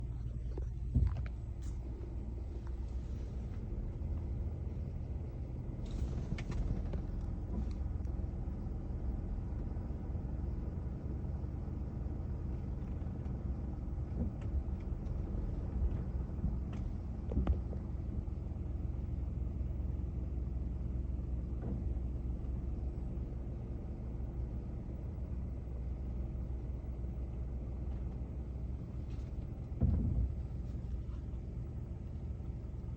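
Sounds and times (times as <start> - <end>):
low motor rumble: 0.0 - 32.9.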